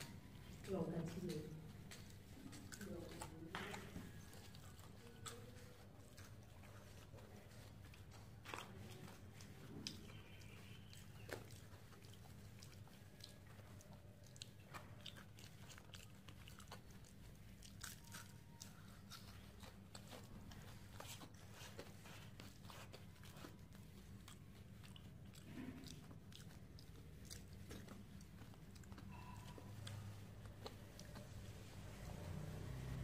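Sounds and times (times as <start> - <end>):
close-up chewing with crunches: 0.0 - 33.0.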